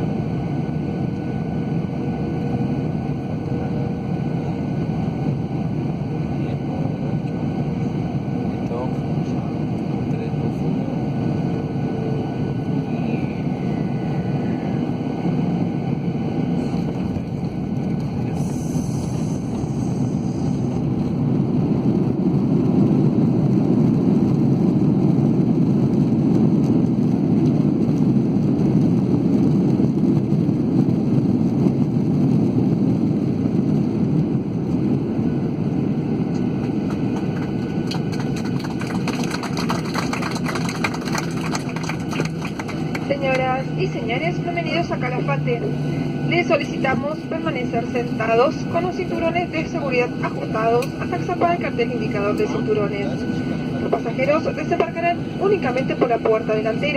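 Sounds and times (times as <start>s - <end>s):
aircraft cabin engine rumble: 0.0s - 56.9s.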